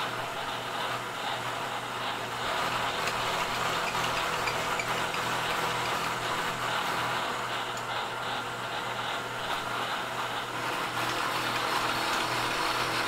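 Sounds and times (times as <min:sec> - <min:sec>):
end mill cutting metal: 0:00.0 - 0:13.0
milling machine motor hum: 0:00.0 - 0:13.0.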